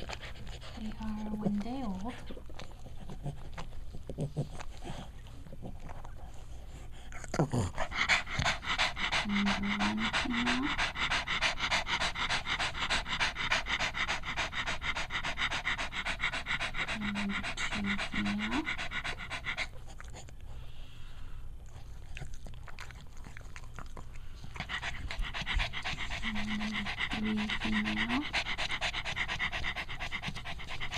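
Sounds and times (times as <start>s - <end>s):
dog panting rapidly: 0.0s - 20.4s, 21.8s - 30.9s.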